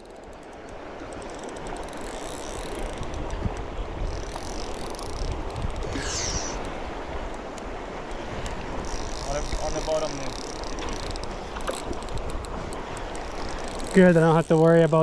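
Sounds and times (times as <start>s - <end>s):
faint ticks: 0.0s - 15.0s
running river water: 0.0s - 15.0s
wind buffeting microphone: 0.8s - 15.0s.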